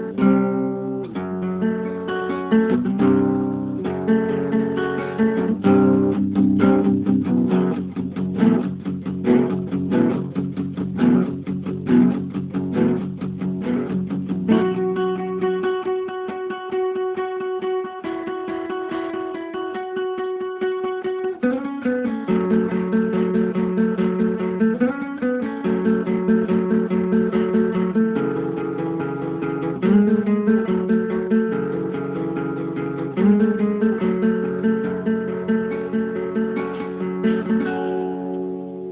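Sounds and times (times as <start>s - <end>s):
acoustic guitar picking chords: 0.0s - 38.9s.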